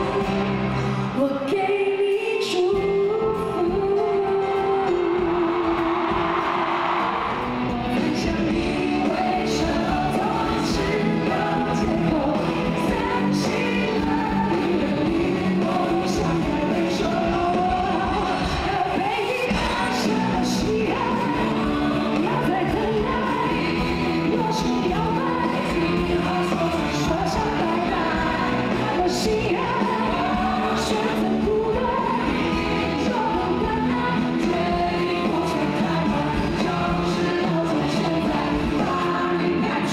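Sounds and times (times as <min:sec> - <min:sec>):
rock band playing: 0:00.0 - 0:01.2, 0:03.4 - 0:39.9
woman singing: 0:00.0 - 0:06.6, 0:07.2 - 0:39.9
man singing: 0:07.6 - 0:39.9.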